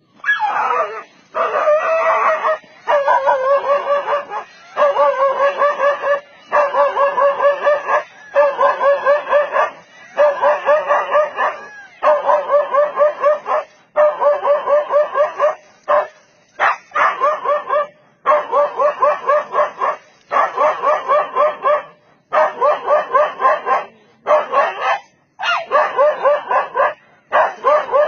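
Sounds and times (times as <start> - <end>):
dog barking rapidly: 0.3 - 28.0.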